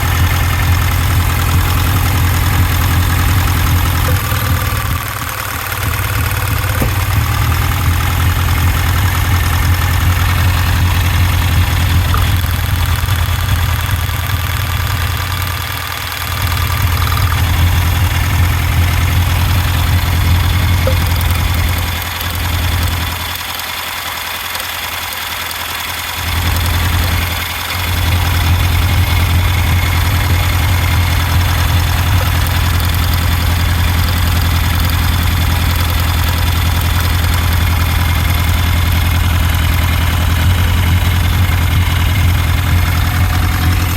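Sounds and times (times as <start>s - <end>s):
engine idling with misfire: 0.0s - 43.9s.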